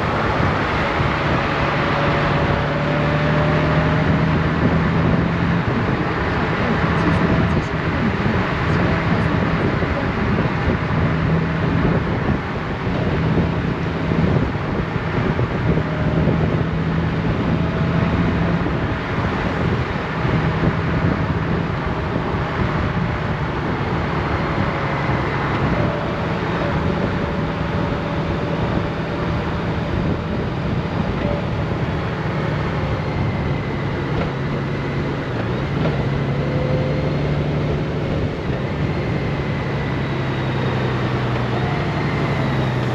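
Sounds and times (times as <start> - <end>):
motorcycle engine hum: 0.0 - 42.9
wind and road noise: 0.0 - 42.9.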